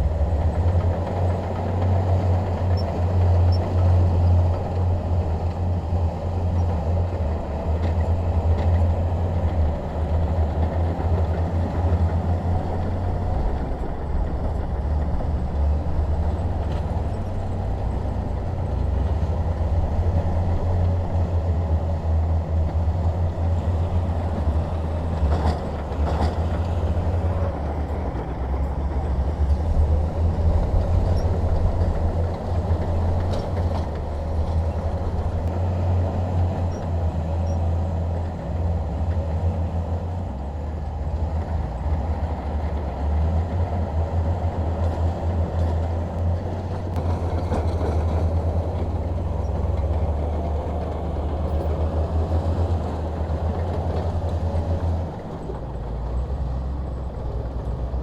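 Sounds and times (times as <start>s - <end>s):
bulldozer diesel engine drone: 0.0s - 58.0s.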